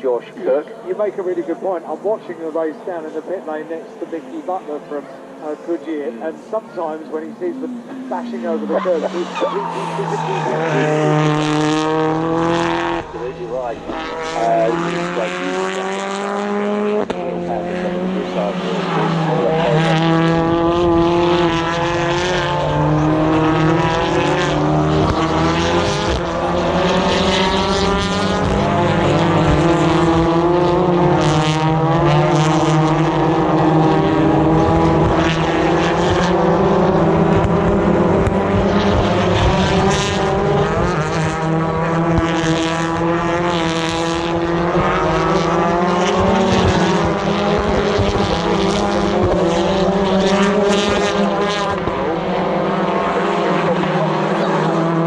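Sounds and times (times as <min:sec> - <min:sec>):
race cars passing at speed: 0:00.0 - 0:55.0.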